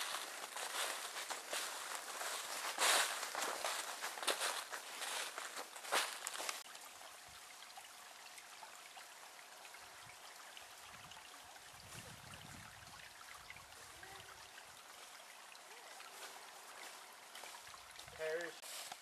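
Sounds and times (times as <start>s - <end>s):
creek trickling over stones: 0.0s - 19.0s.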